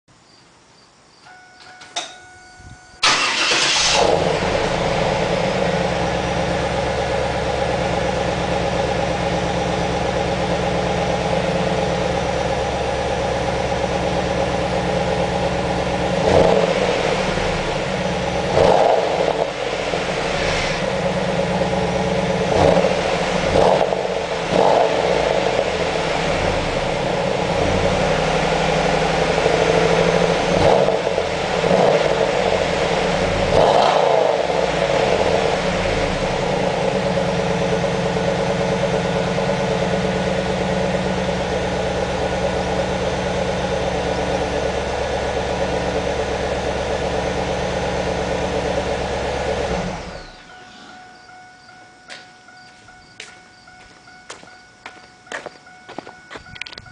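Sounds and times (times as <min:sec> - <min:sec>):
car engine starting: 0:02.0 - 0:51.8
car engine idling: 0:02.1 - 0:56.9
car engine revving: 0:03.0 - 0:51.3.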